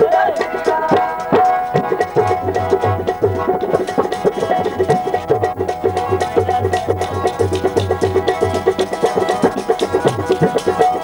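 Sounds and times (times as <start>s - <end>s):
hand drum rhythm: 0.0s - 11.0s
harmonium melody: 0.0s - 11.0s.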